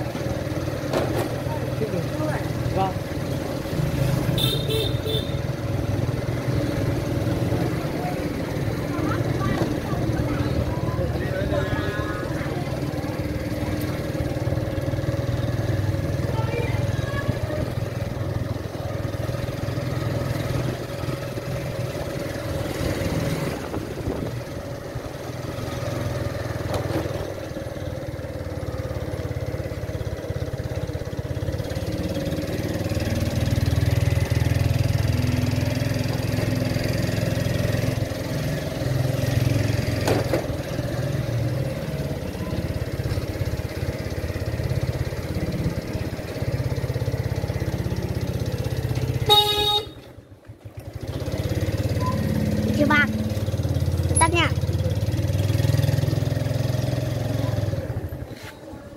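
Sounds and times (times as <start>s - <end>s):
small motorbike engine running: 0.0s - 58.9s.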